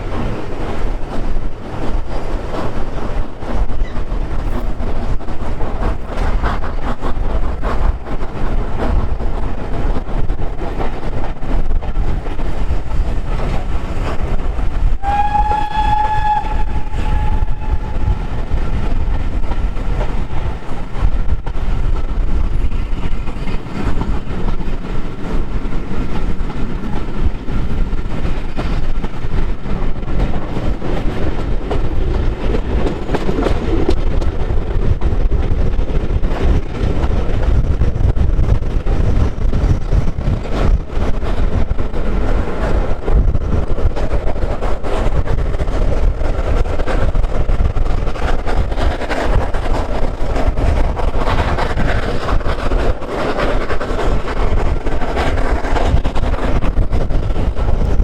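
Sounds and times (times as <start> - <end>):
train rumbling on rails: 0.0 - 58.0
wheels clicking on rail joints: 0.0 - 58.0.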